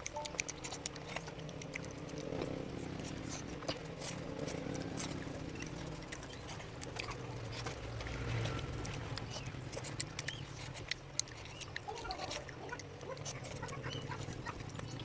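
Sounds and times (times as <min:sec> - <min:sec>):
chewing and lip smacking: 0:00.0 - 0:15.0
low steady hum: 0:00.0 - 0:15.0
wet clicks: 0:00.0 - 0:15.0.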